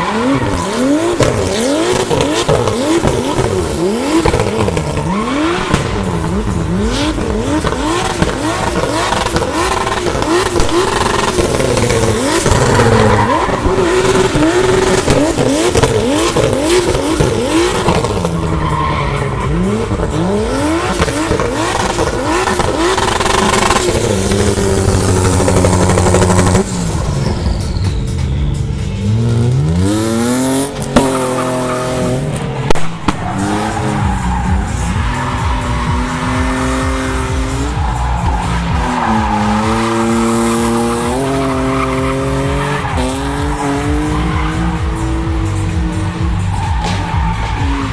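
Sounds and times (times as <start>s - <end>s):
tyre squeal: 0.0s - 29.7s, 30.6s - 47.9s
car engines revving hard: 0.0s - 47.9s.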